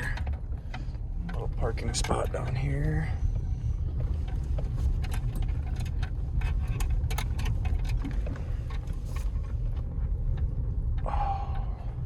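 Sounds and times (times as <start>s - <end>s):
pickup truck driving slowly: 0.0s - 12.0s.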